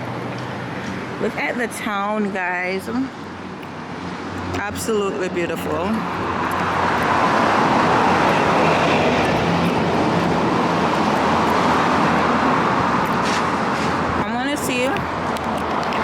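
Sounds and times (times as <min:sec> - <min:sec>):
road traffic passing close: 0:00.0 - 0:16.0.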